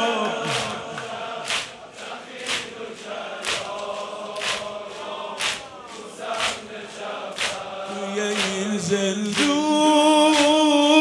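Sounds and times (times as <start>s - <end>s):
chest-beating in unison: 0.0s - 10.8s
crowd chanting: 0.0s - 11.0s.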